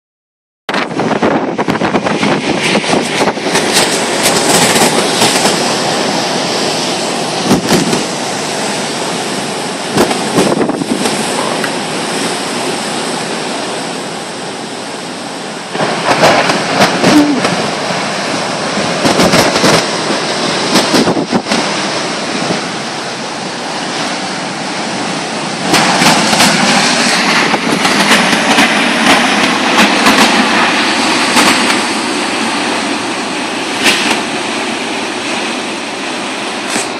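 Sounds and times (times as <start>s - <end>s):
wind buffeting microphone: 0.7s - 13.8s, 15.7s - 35.9s
storm waves crashing on rocks: 0.7s - 36.9s.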